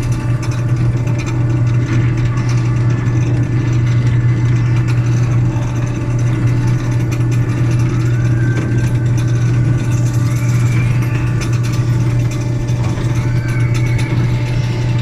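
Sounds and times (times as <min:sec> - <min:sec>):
faint rising whine: 0:00.0 - 0:15.0
ride train mechanical hum: 0:00.0 - 0:15.0.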